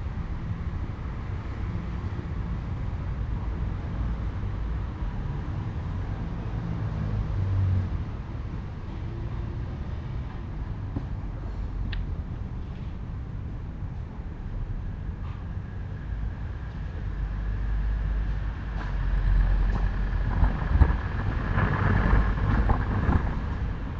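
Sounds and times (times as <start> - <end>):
road traffic rumble: 0.0 - 23.9.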